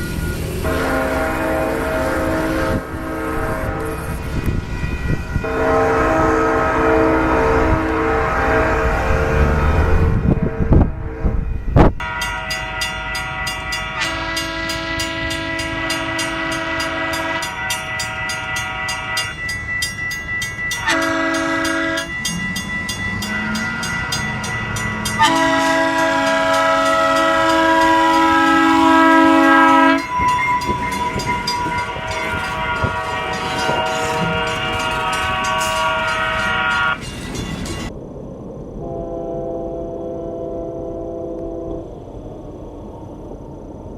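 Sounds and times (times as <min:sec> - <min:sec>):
locomotive air horn: 0:00.5 - 0:19.6, 0:20.8 - 0:22.3, 0:25.0 - 0:37.0, 0:38.8 - 0:41.9.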